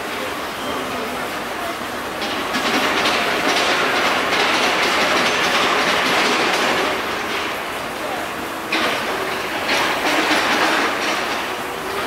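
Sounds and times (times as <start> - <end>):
construction machinery clatter: 0.0 - 12.0.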